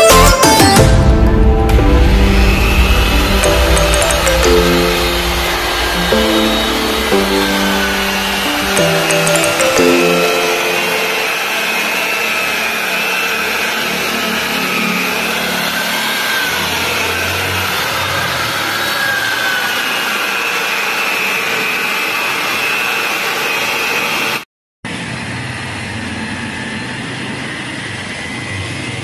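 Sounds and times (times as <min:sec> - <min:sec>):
electric polisher motor whine: 0:01.0 - 0:24.4.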